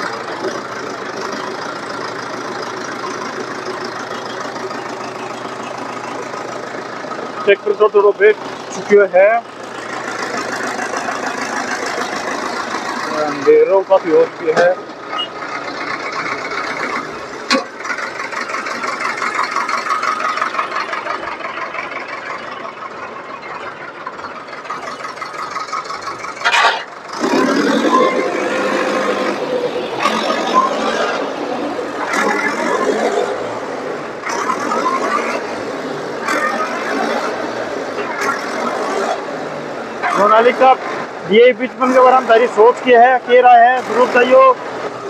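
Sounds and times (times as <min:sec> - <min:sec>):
tractor diesel engine straining: 0:00.0 - 0:45.0.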